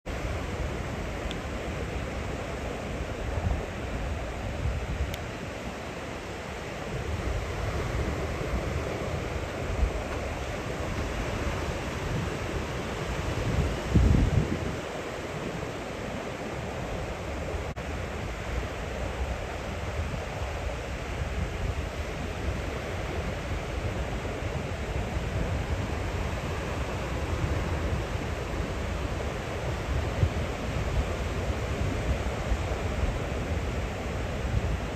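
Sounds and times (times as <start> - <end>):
ocean surf breaking: 0.1 - 34.9
wind buffeting microphone: 0.1 - 34.9.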